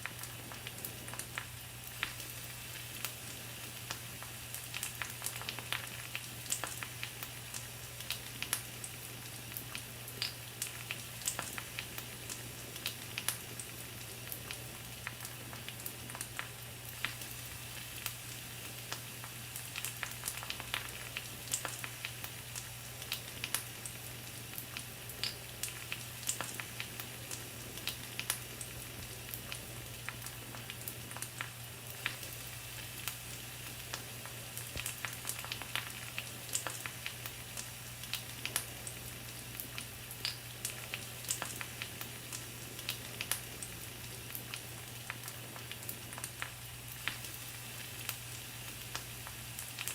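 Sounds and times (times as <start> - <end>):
fire pops and crackles: 0.0 - 2.3, 9.5 - 49.9
meat sizzling on a grill: 0.0 - 49.9.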